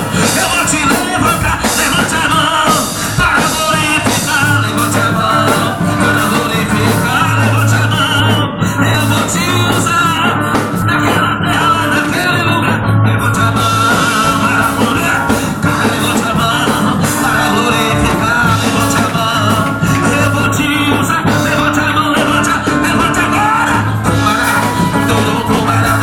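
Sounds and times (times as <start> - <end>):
band accompaniment: 0.0 - 26.0
person singing: 0.0 - 26.0.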